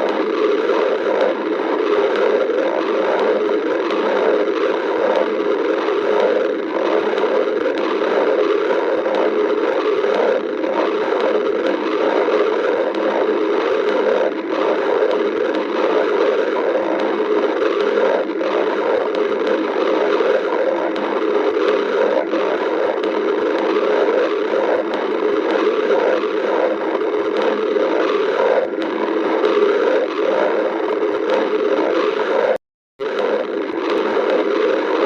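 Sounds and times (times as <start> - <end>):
stomach growling: 0.0 - 35.0.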